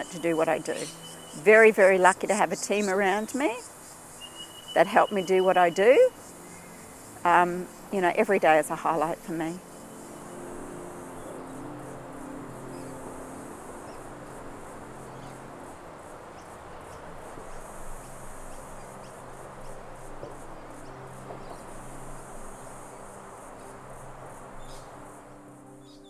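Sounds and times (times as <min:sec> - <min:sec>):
insect chorus pulsing: 0:00.0 - 0:26.0
steady hiss: 0:00.0 - 0:26.0.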